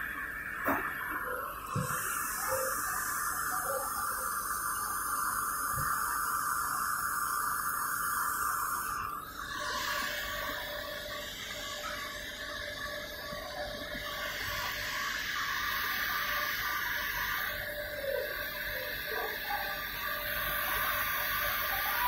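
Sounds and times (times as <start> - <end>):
cotton candy machine whirring: 0.0 - 22.0
high hiss: 0.0 - 22.0.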